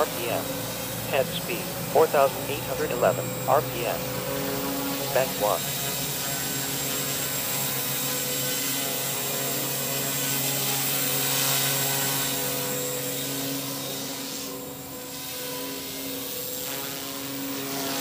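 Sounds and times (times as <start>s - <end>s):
rc helicopter motor whine: 0.0s - 18.0s.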